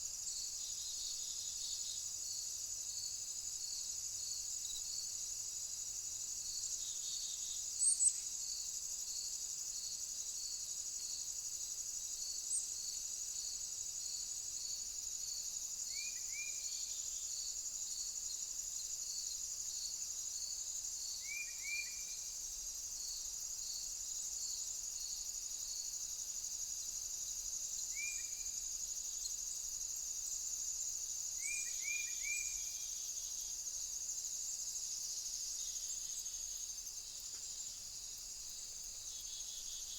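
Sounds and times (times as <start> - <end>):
insects trilling and chirping: 0.0 - 39.9.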